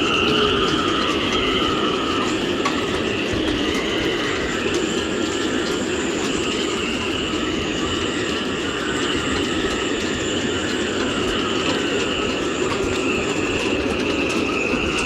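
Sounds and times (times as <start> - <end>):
wind howling through rigging: 0.0 - 15.0.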